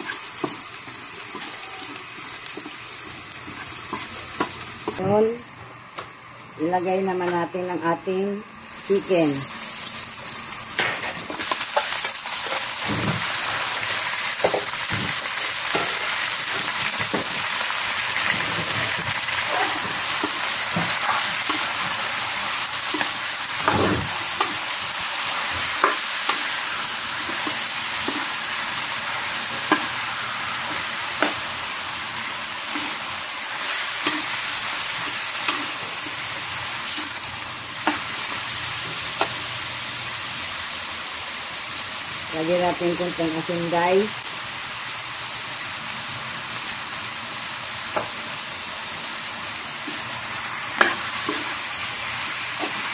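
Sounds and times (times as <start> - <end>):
chicken sizzling in hot oil: 0.0 - 5.0, 8.8 - 52.9.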